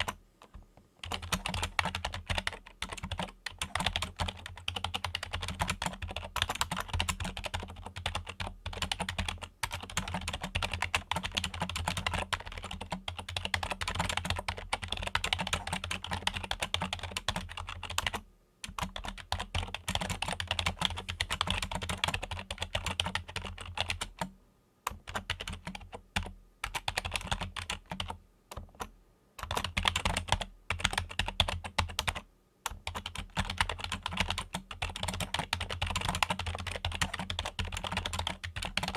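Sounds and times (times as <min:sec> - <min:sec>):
computer keyboard typing: 0:00.0 - 0:24.3, 0:24.9 - 0:38.9.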